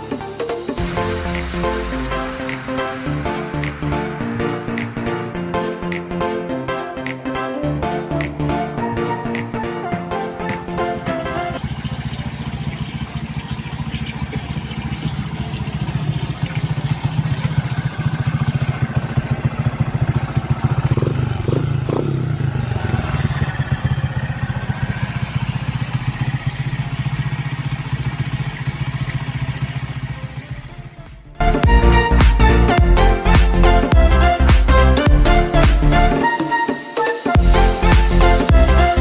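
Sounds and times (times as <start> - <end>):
motorcycle engine running: 0.0 - 6.2, 10.4 - 36.2, 37.4 - 39.0.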